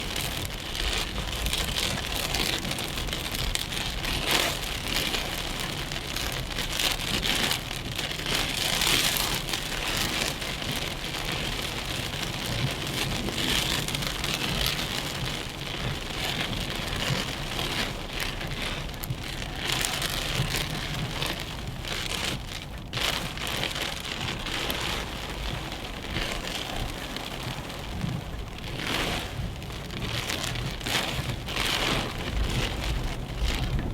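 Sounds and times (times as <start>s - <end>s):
car rumbling: 0.0s - 33.9s
rain on a car: 0.0s - 33.9s.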